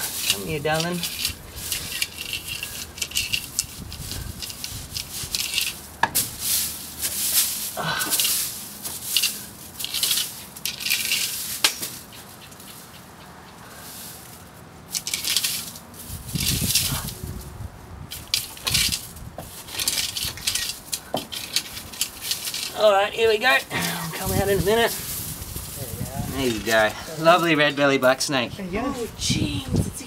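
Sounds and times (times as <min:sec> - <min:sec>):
soil being dug and scraped: 0:00.0 - 0:13.1, 0:13.7 - 0:17.5, 0:18.1 - 0:29.2.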